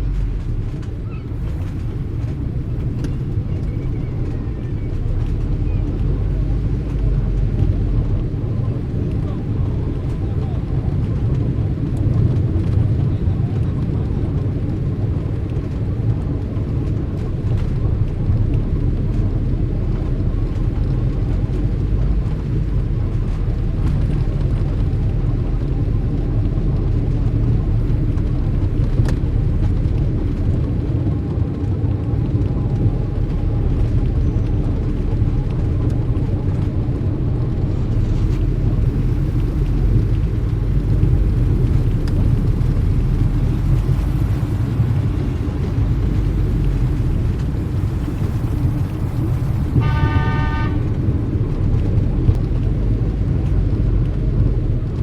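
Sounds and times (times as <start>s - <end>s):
car traffic rumble: 0.0s - 55.0s.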